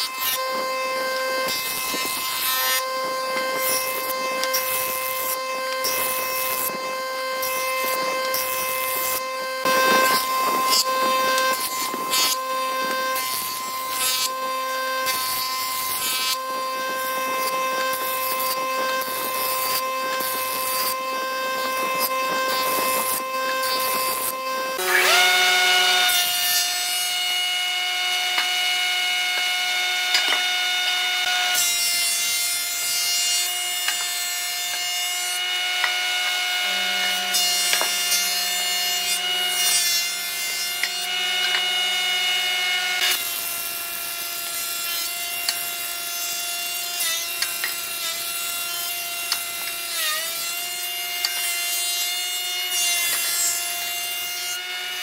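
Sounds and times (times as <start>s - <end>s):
planer whining: 0.0s - 55.0s.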